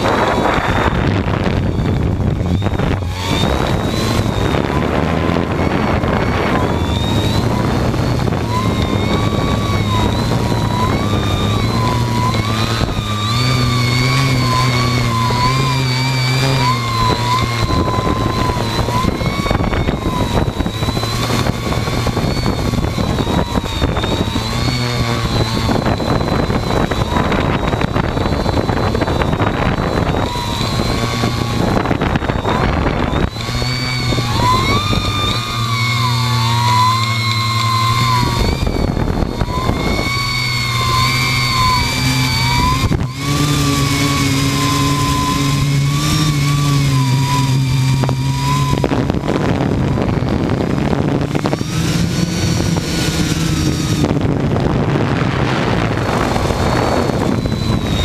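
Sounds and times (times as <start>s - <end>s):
drone motors whining: 0.0s - 58.0s
wind noise on microphone: 0.0s - 58.0s.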